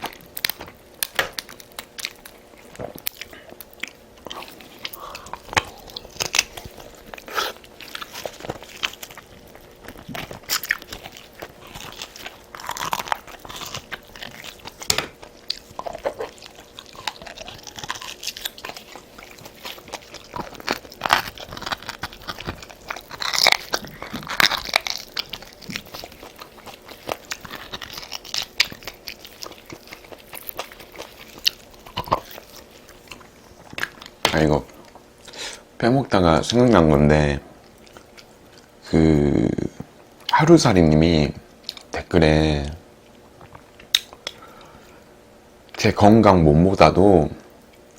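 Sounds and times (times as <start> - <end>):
person chewing crunchy food: 0.0 - 35.7, 37.5 - 40.4, 41.4 - 42.0, 43.0 - 45.8, 47.4 - 47.9.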